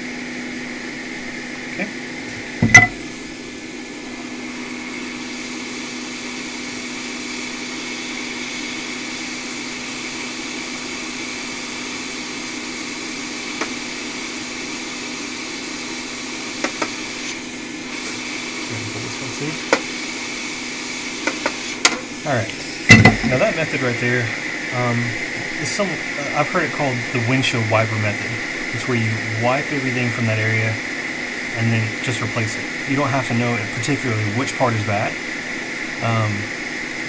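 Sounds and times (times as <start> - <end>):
hot air station blowing: 0.0 - 37.0.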